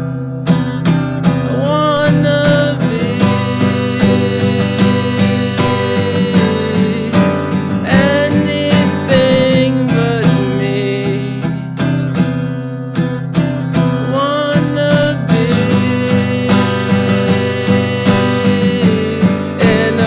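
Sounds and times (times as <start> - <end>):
acoustic guitar strumming: 0.0 - 20.0
man singing: 1.2 - 12.0, 13.1 - 20.0.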